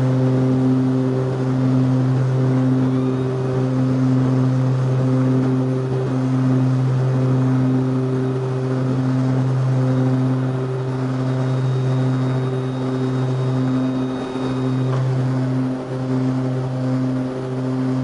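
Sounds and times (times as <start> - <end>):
thin high whine: 0.0 - 18.0
turboprop propeller drone: 0.0 - 18.0.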